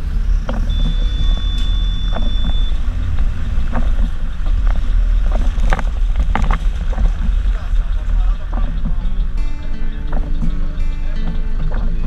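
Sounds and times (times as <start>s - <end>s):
bus engine and road rumble: 0.0s - 12.0s
body knocks and rattles: 0.4s - 12.0s.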